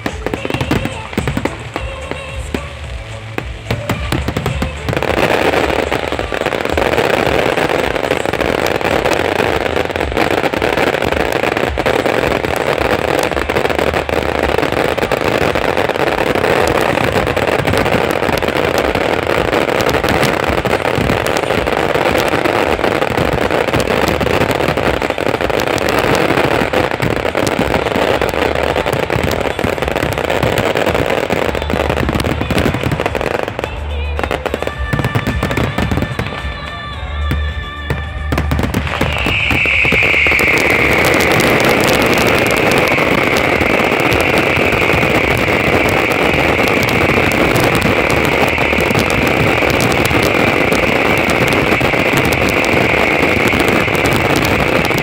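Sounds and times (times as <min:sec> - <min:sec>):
fireworks exploding and crackling: 0:00.0 - 0:55.0.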